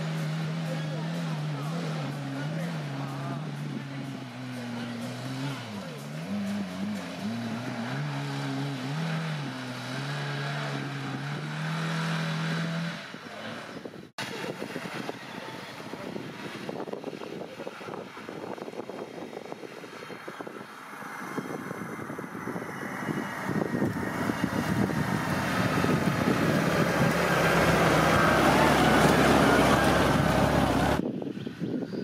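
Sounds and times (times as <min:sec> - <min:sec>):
off-road engine running hard: 0:00.0 - 0:32.0.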